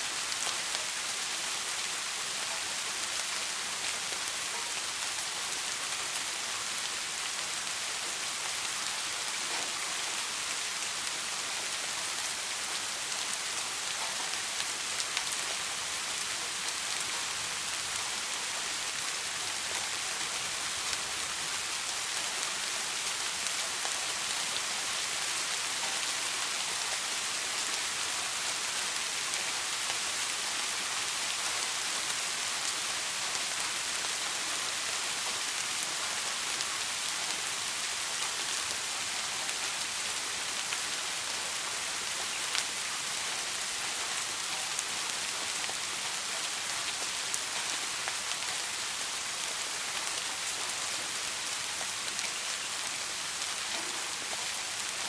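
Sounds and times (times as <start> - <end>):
soft rain patter: 0.0 - 55.0.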